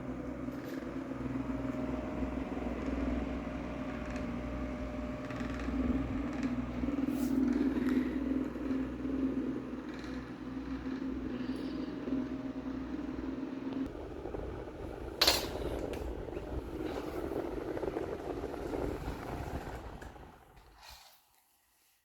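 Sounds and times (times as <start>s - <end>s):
table fan humming: 0.0s - 20.8s
fan blade winding down: 0.0s - 21.2s.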